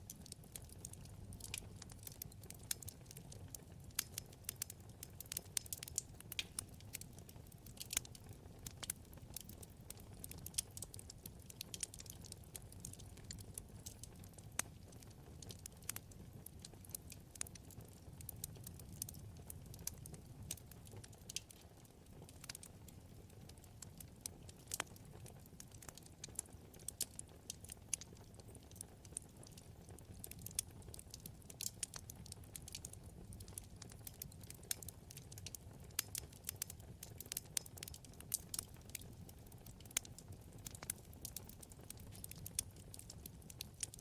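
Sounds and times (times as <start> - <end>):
low rumble of flames: 0.0 - 44.0
wood fire crackling: 0.0 - 44.0.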